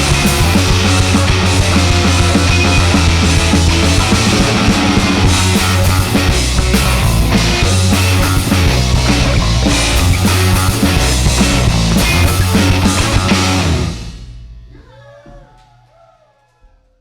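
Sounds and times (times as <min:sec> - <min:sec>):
punk rock band playing: 0:00.0 - 0:14.6.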